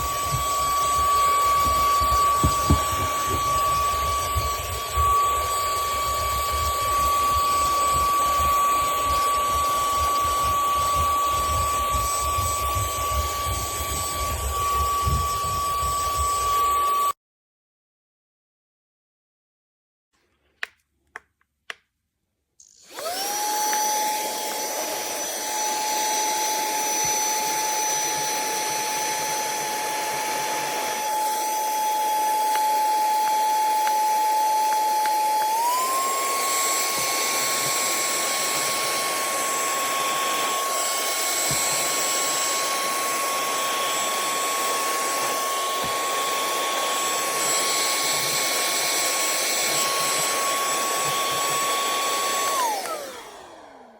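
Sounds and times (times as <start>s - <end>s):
handheld vacuum running: 0.0s - 17.2s, 22.6s - 53.9s.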